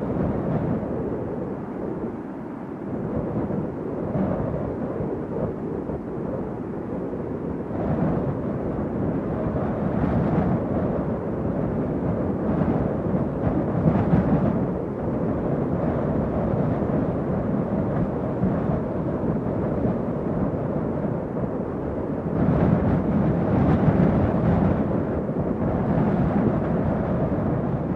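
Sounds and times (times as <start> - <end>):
strong wind blowing: 0.0 - 27.9.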